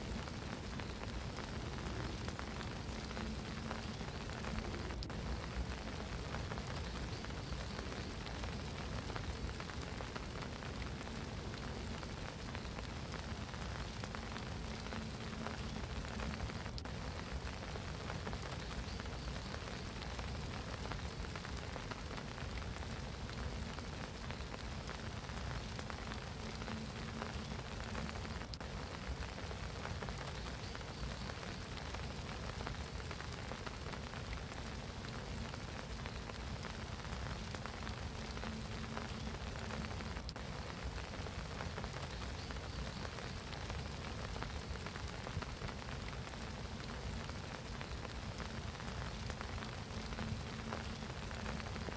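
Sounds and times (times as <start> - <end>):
rain falling on pond water: 0.0 - 51.9.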